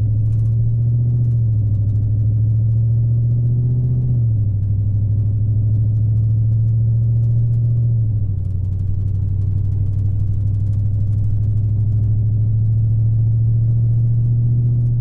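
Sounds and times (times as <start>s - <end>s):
car engine droning inside cabin: 0.0s - 15.0s.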